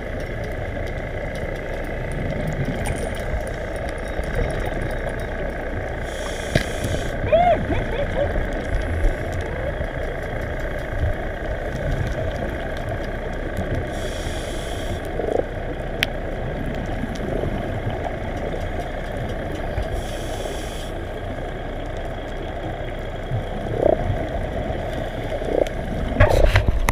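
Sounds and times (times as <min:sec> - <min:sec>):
muffled underwater rumble: 0:00.0 - 0:26.9.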